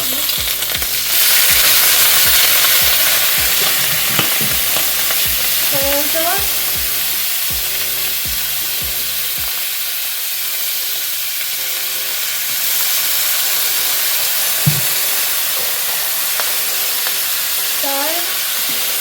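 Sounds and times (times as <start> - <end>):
ribs sizzling in a wok: 0.0 - 19.0.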